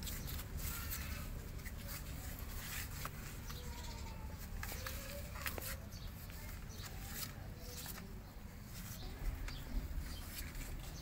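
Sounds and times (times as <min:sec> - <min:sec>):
light clicks and rustles: 0:00.0 - 0:11.0.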